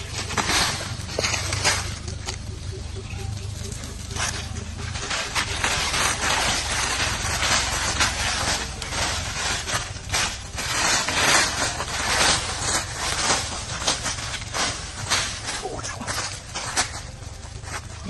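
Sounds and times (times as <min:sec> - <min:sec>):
burning leaves crackling: 0:00.0 - 0:18.0
feet rustling through dry leaves: 0:00.0 - 0:18.0
steady low rumble: 0:00.0 - 0:18.0.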